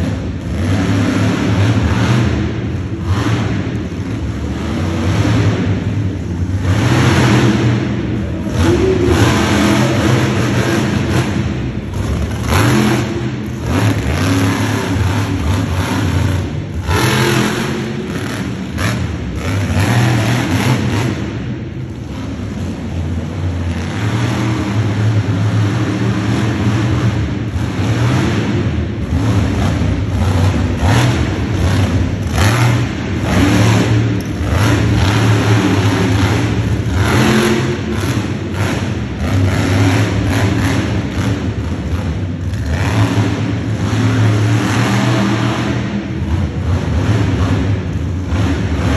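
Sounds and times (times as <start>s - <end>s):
monster truck engine revving: 0.0s - 48.9s.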